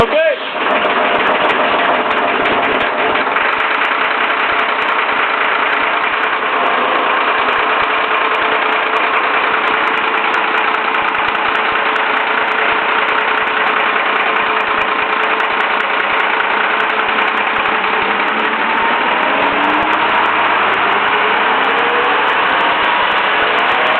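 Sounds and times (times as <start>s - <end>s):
bus diesel engine running: 0.0s - 23.9s.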